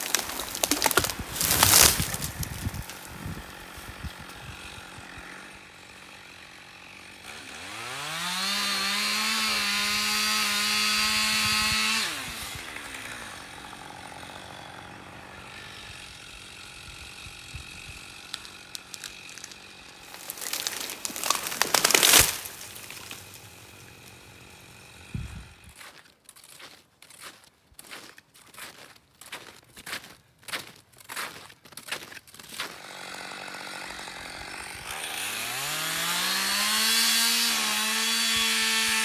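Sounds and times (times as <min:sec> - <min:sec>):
chainsaw idling and revving: 0:00.0 - 0:26.1, 0:31.9 - 0:39.0.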